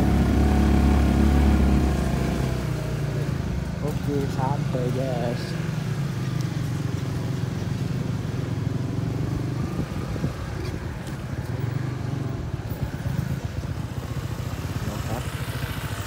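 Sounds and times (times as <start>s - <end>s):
motorcycle engine at low speed: 0.0s - 16.0s.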